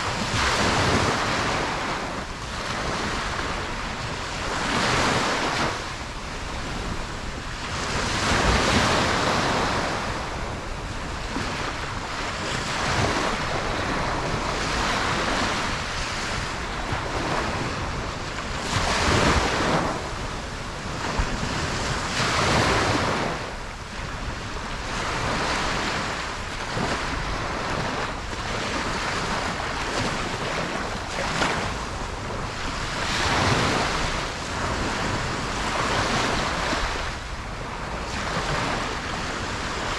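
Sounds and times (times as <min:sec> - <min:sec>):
ocean waves breaking: 0:00.0 - 0:39.9
wind on microphone: 0:00.0 - 0:39.9.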